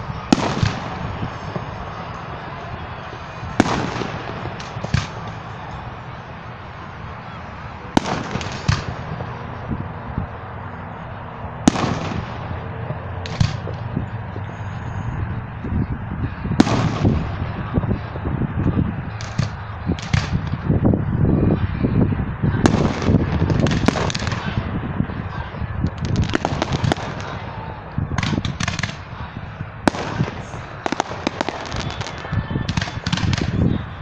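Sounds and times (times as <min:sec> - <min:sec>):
fireworks bursting with sharp bangs: 0:00.0 - 0:20.8, 0:22.5 - 0:34.0
dense fireworks crackling: 0:00.0 - 0:34.0.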